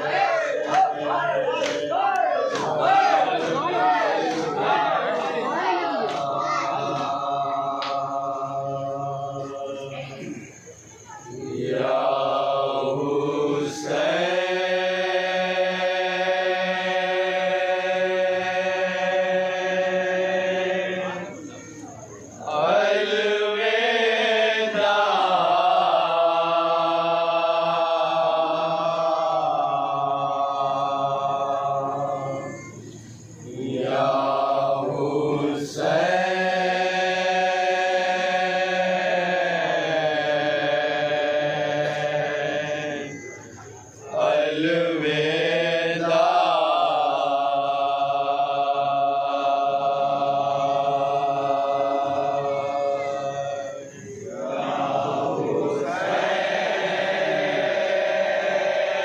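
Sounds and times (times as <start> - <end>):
person chanting a mourning lament: 0.0 - 59.0.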